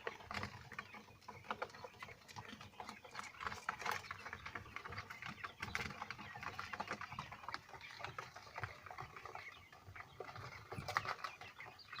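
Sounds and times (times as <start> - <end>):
quail chicks peeping: 0.0 - 12.0.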